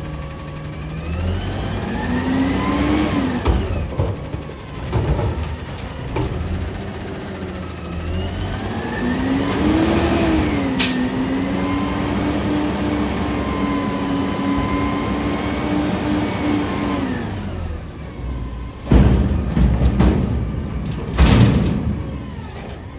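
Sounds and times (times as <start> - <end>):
truck diesel engine revving: 0.0 - 22.9.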